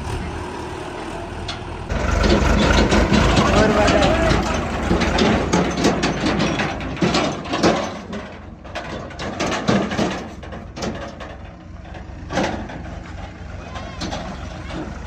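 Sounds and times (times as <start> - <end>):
diesel engine running: 0.0 - 15.0
metallic clanks and knocks: 1.4 - 15.0.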